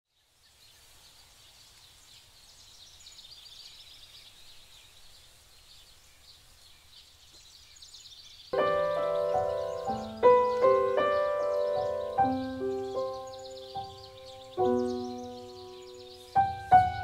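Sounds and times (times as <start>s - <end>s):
small birds chirping: 0.1s - 17.0s
soft steady hiss: 0.1s - 17.0s.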